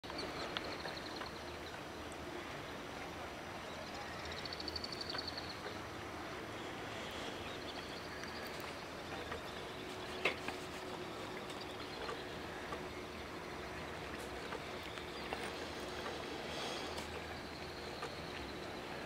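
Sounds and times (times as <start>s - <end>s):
low hum with hiss: 0.1s - 19.0s.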